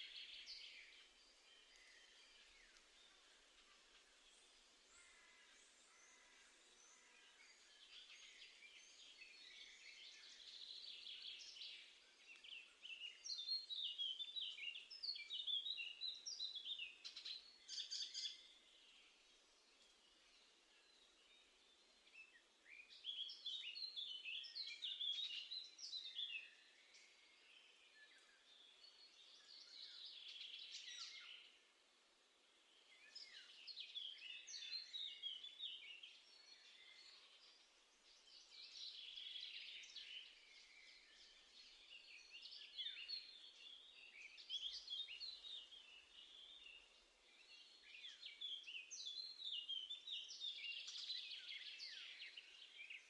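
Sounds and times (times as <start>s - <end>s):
faint background hiss: 0.0s - 53.0s
songbird singing: 0.0s - 53.0s.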